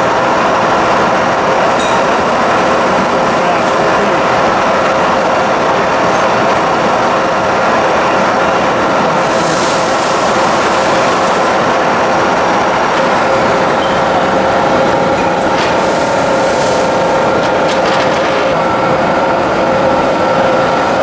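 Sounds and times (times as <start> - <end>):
milling machine drone and whine: 0.0 - 21.0.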